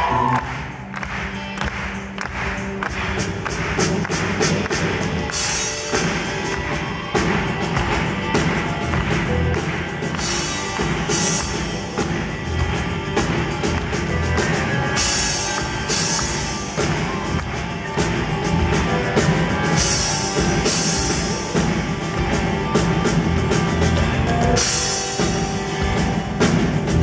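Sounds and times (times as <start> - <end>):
electric guitar: 0.0 - 27.0.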